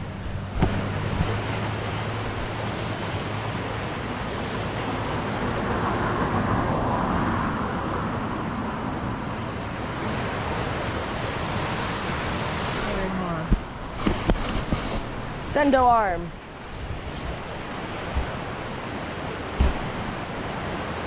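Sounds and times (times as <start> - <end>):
rushing floodwater roar: 0.0 - 21.0.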